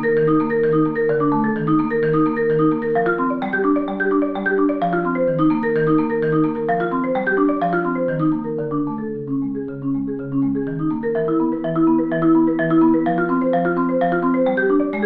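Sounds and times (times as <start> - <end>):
marimba played with mallets: 0.0 - 15.0.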